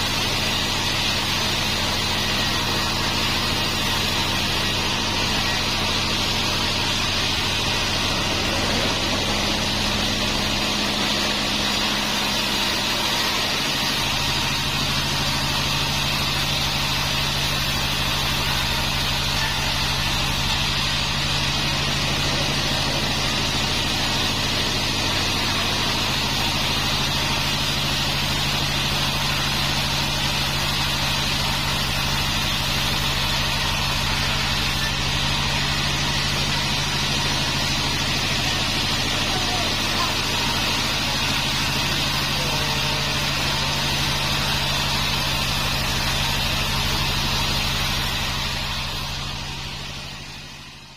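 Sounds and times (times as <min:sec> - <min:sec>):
bandsaw mill running: 0:00.0 - 0:50.9.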